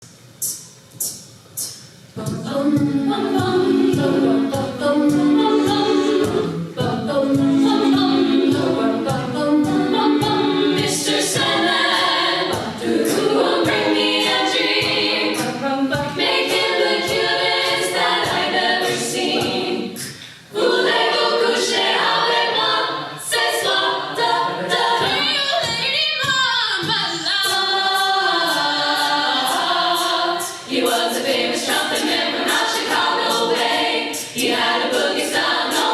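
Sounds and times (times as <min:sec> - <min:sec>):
vocal percussion beat: 0:00.0 - 0:35.9
women singing in harmony: 0:02.2 - 0:35.9.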